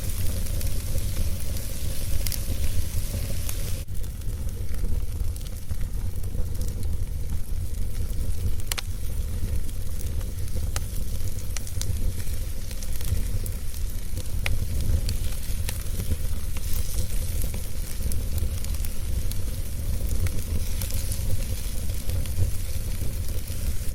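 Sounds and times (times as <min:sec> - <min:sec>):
low rumble of flame: 0:00.0 - 0:23.9
wood crackling and popping: 0:00.0 - 0:23.9.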